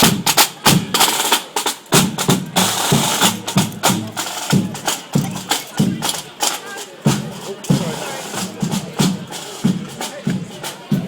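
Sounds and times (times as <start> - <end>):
marching drums beating: 0.0 - 11.0.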